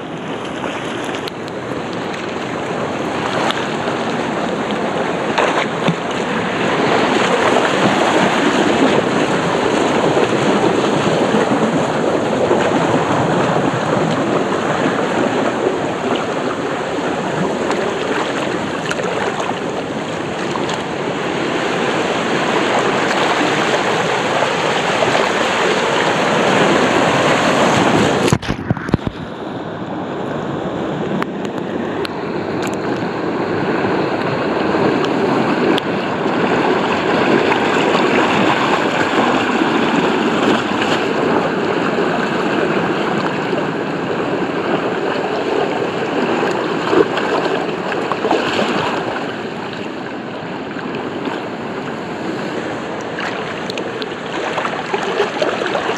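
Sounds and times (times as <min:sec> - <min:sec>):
water rushing and splashing: 0:00.0 - 0:55.9.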